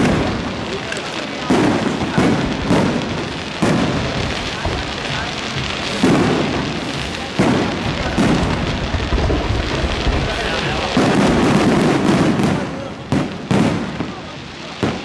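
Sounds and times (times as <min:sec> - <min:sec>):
fireworks bangs with echo: 0:00.0 - 0:15.0
fireworks crackle: 0:00.0 - 0:15.0.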